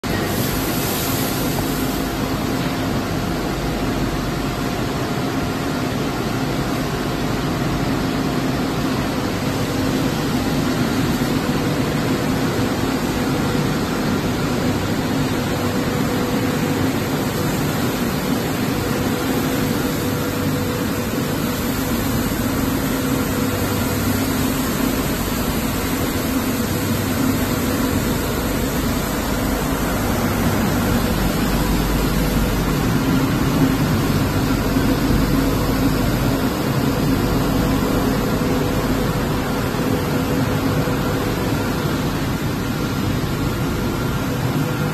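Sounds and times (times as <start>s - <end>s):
constant low hum: 0.0s - 44.9s
washing machine running: 0.0s - 44.9s.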